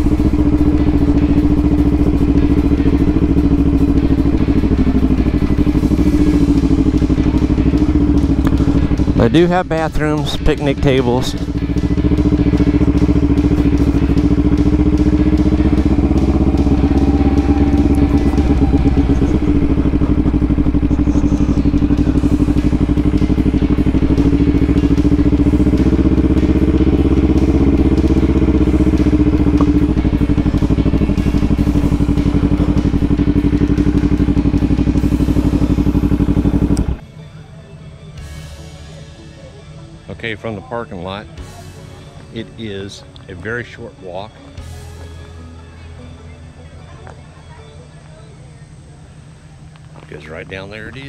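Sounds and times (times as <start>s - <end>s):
motorcycle engine at low revs: 0.0s - 37.2s, 37.8s - 51.0s.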